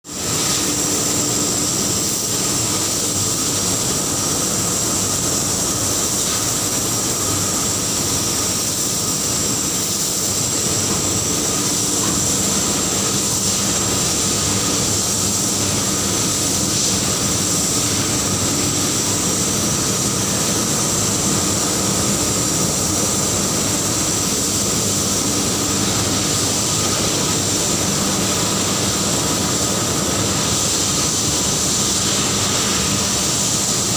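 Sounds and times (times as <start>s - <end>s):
constant high whine: 0.0s - 33.9s
loud industrial furnace noise: 0.0s - 33.9s.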